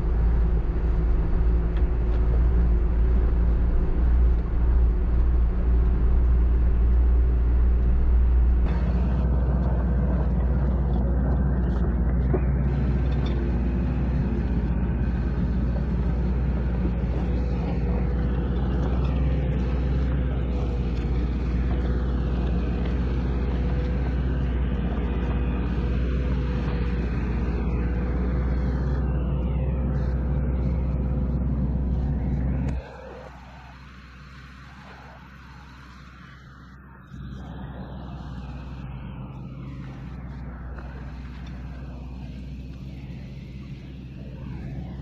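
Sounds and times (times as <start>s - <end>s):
diesel truck engine running: 0.0s - 45.0s
engine whine: 0.0s - 45.0s.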